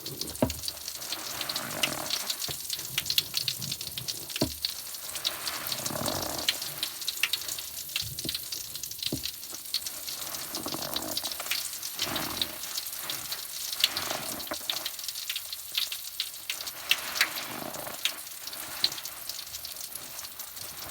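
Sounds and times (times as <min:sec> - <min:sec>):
bath crackles fizzing: 0:00.0 - 0:20.9.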